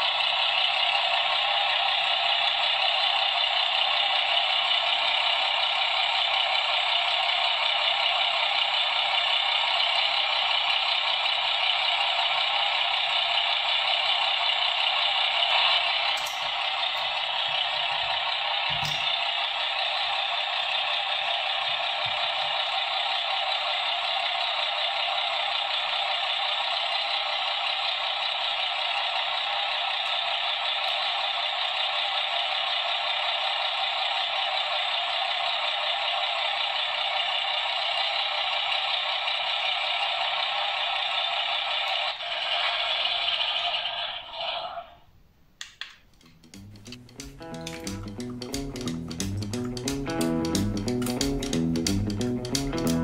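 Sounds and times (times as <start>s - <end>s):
tinny simulated truck engine: 0.0s - 53.0s.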